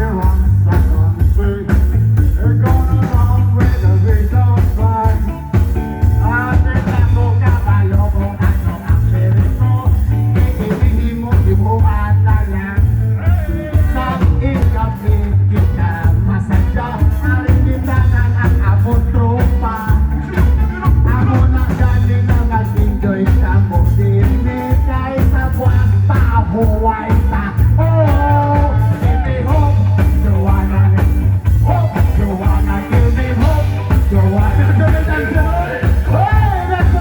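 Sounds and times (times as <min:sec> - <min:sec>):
heavy pulsing bass line: 0:00.0 - 0:37.0
live rock band playing: 0:00.0 - 0:37.0
person singing: 0:00.0 - 0:37.0.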